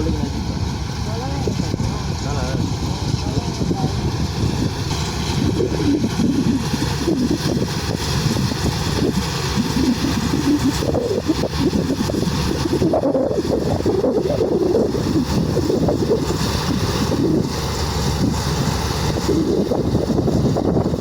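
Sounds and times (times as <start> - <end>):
tractor diesel engine running: 0.0 - 21.0
wind buffeting microphone: 0.0 - 21.0.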